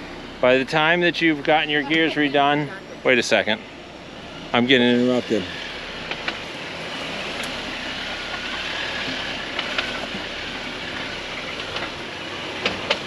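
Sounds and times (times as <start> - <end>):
engine and tyre noise: 0.0 - 13.0.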